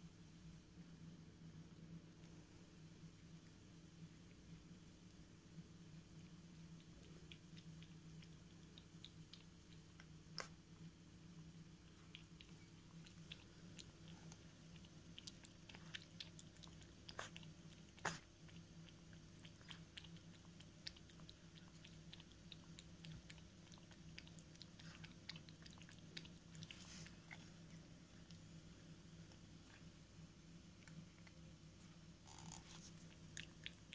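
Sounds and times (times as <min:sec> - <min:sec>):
steady low hum: 0:00.0 - 0:33.9
cat lapping milk: 0:06.2 - 0:33.9.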